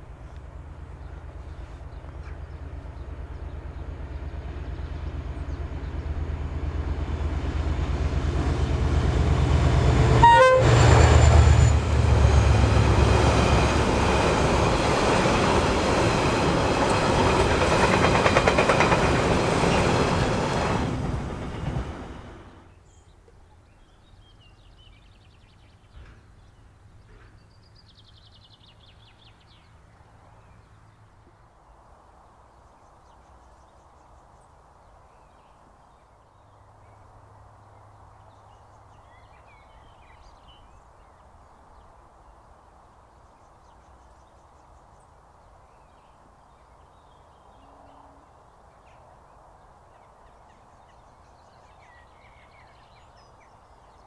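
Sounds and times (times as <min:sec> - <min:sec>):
distant diesel locomotive drone: 0:00.0 - 0:54.0.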